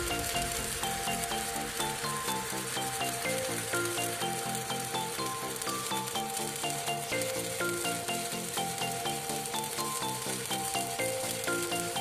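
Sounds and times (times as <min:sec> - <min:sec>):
arc welding crackling: 0:00.0 - 0:12.0
background music: 0:00.0 - 0:12.0.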